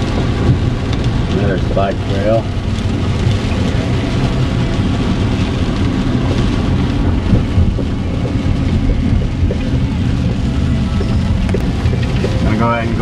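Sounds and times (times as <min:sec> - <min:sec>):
car driving low rumble: 0:00.0 - 0:13.0
rain hitting car windows: 0:00.0 - 0:13.0.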